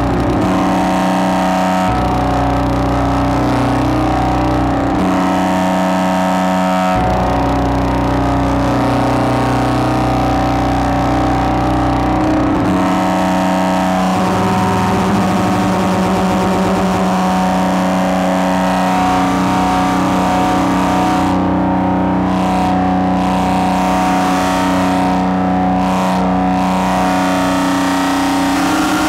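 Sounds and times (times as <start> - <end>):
distorted synthesizer drone: 0.0 - 29.0
wavering synth sweep: 0.0 - 29.0.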